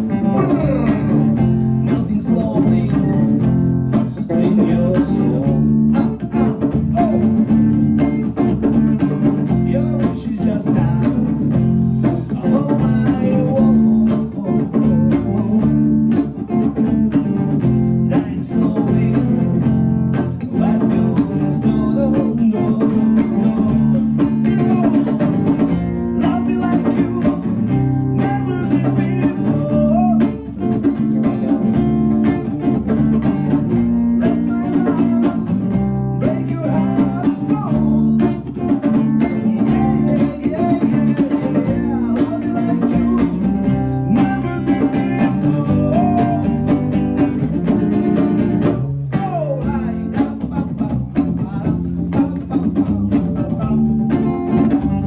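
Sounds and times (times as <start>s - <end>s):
person singing: 0.0s - 16.9s, 18.0s - 31.6s, 33.9s - 47.3s, 48.6s - 55.0s
drums: 0.0s - 55.0s
guitar chords: 0.0s - 55.0s.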